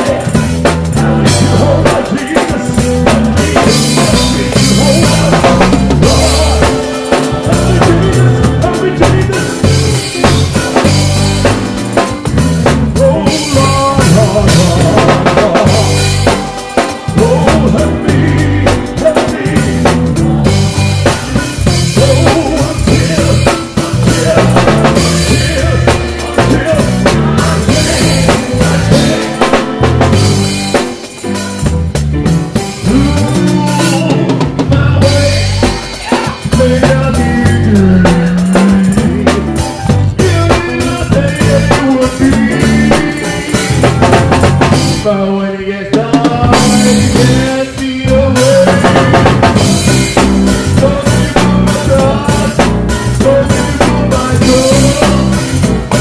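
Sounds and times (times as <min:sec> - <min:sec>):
drum kit: 0:00.0 - 0:56.0
gospel choir singing: 0:00.0 - 0:56.0.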